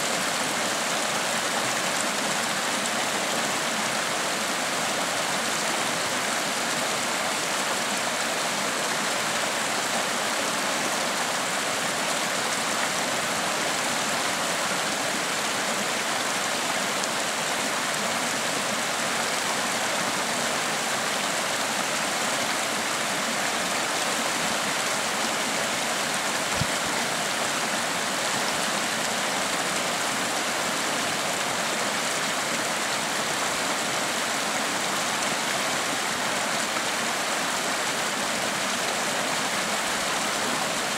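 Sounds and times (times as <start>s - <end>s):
creek running over rocks: 0.0s - 40.9s.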